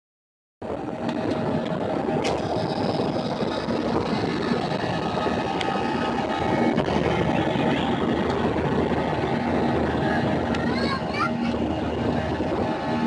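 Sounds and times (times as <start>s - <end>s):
airliner cabin engine noise: 0.6s - 13.0s.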